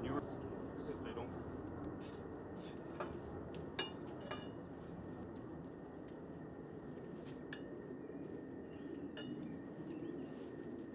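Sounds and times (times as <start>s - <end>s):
steady background hum: 0.0s - 10.9s.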